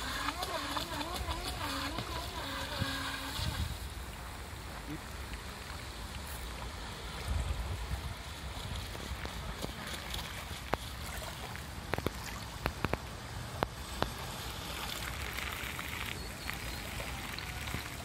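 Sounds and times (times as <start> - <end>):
small waves lapping on pebbles: 0.0 - 18.0
water hiss: 0.0 - 18.0
wind rumbling on microphone: 0.0 - 18.0.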